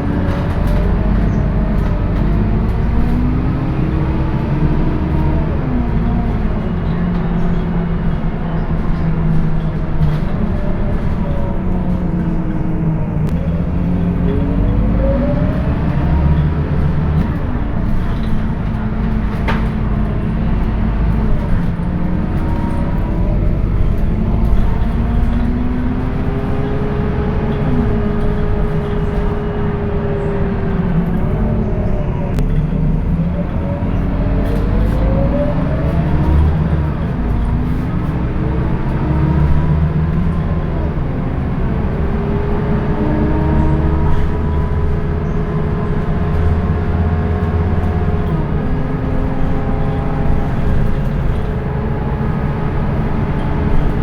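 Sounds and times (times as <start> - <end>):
bus engine and drivetrain whine: 0.0 - 54.0.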